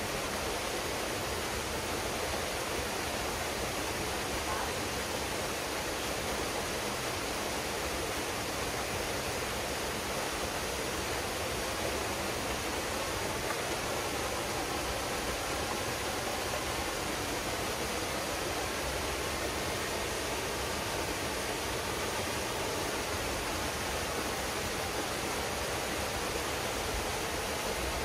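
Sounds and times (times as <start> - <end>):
waterfall pouring into pool: 0.0 - 28.0.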